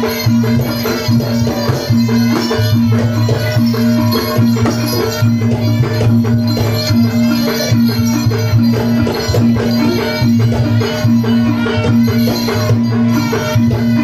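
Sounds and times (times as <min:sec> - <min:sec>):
drums and percussion rhythm: 0:00.0 - 0:14.0.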